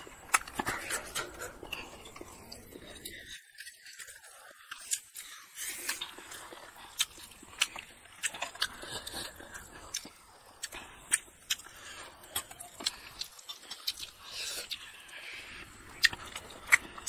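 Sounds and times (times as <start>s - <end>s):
wet chewing and lip smacks: 0.0s - 17.0s.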